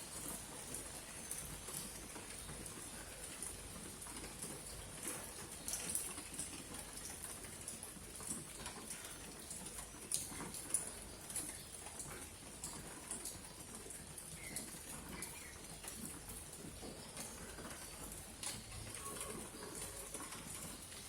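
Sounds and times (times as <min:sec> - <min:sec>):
rain pattering and dripping: 0:00.0 - 0:21.0.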